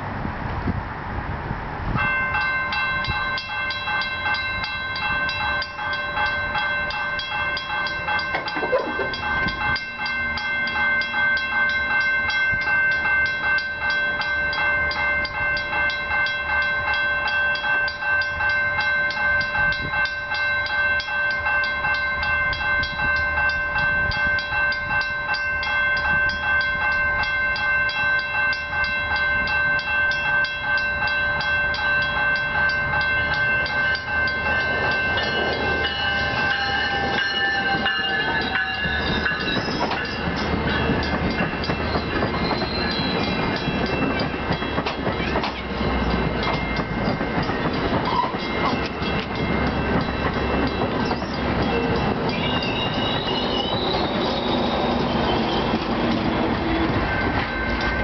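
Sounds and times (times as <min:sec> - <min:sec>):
level-crossing warning bell ringing: 0:02.0 - 0:58.0.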